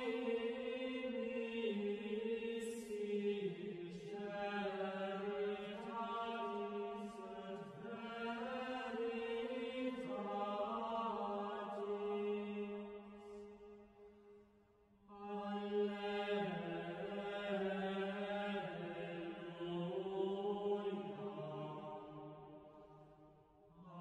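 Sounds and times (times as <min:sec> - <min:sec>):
slow vocal chanting: 0:00.0 - 0:24.0.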